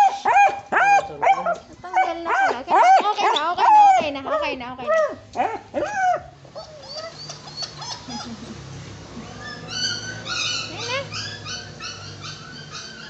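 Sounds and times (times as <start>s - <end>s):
dog whining and whimpering: 0.0s - 13.0s.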